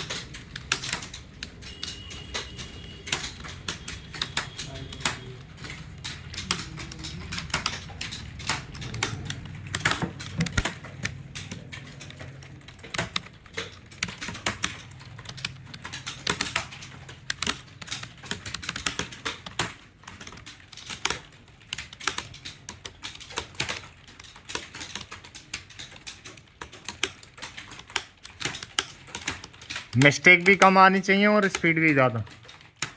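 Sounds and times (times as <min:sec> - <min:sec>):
fast typing on keyboard: 0:00.0 - 0:32.9.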